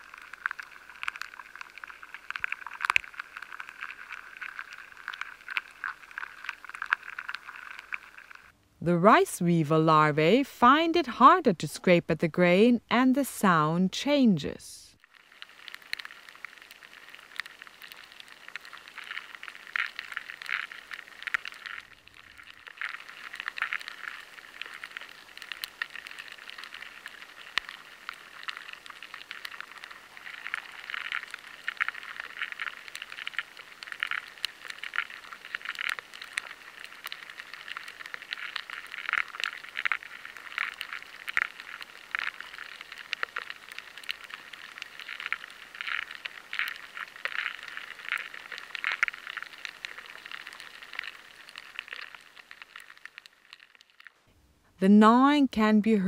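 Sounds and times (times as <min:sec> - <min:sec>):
larvae scraping and gnawing: 0:00.0 - 0:08.5, 0:15.0 - 0:54.3.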